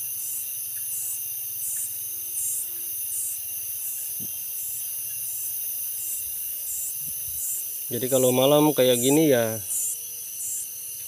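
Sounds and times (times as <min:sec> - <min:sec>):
crickets shrilling: 0:00.0 - 0:11.0
pulsing insect call: 0:00.0 - 0:11.0.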